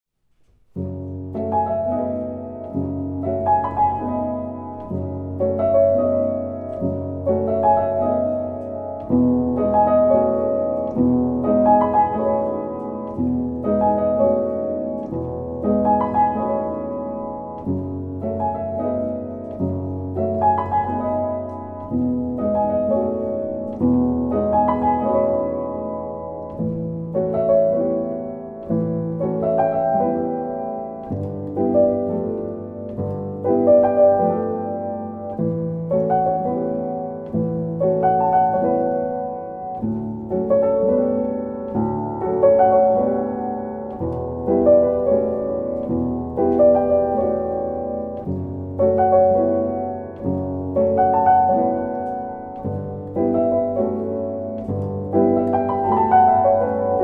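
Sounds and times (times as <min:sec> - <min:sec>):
slow piano music: 0:00.2 - 0:57.0.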